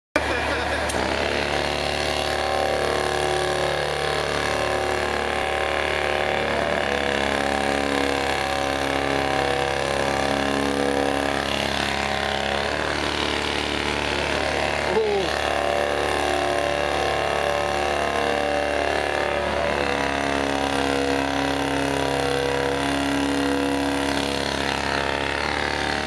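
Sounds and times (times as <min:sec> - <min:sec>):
motor running steadily: 0:00.2 - 0:26.0.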